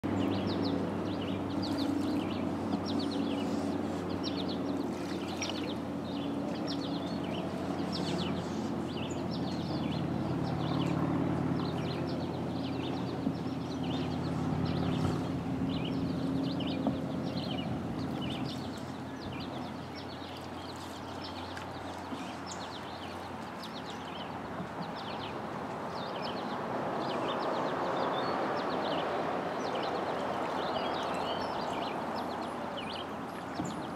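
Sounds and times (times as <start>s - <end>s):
paddle strokes in water: 0.1s - 33.9s
small birds chirping: 0.1s - 33.9s.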